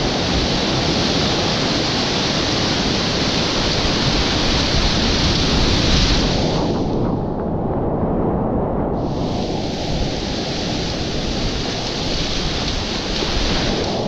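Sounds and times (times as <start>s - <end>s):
whitewater rapids rushing: 0.0s - 6.7s, 9.0s - 14.0s.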